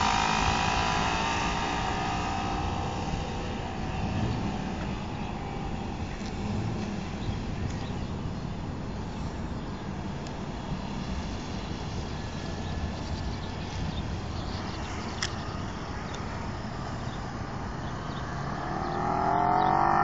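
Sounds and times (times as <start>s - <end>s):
motorcycle engine running: 0.0s - 20.0s
wind rumble on microphone: 0.0s - 20.0s.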